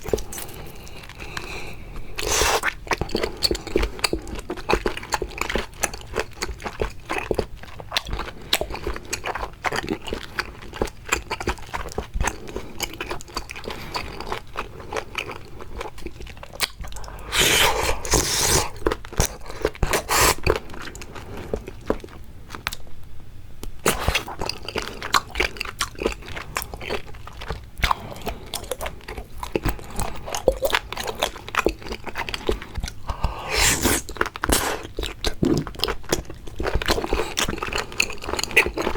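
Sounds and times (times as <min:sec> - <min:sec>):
crunchy chewing of seafood: 0:00.0 - 0:23.0, 0:23.6 - 0:38.9.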